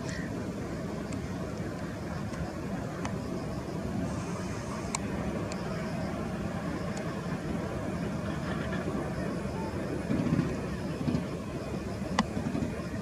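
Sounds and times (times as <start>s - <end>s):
distant jet airliner rumble: 0.0s - 13.0s.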